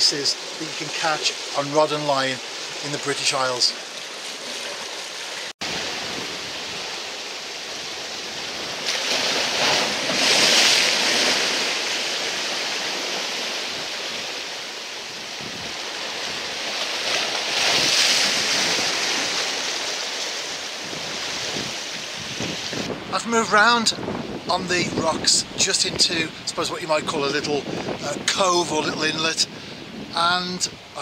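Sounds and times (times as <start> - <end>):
waves washing over rocks: 0.0 - 29.5.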